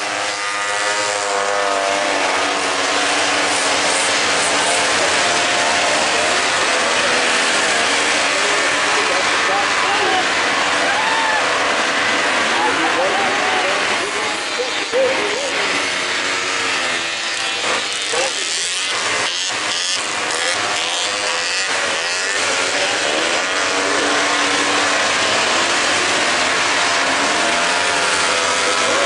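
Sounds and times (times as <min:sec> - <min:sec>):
snowmobile engines revving: 0:00.0 - 0:29.0.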